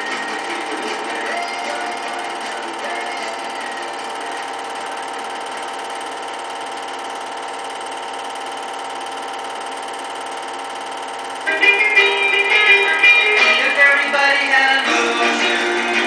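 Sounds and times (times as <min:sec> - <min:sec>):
small motor whirring: 0:00.0 - 0:15.8
constant multi-tone hum: 0:00.0 - 0:16.0.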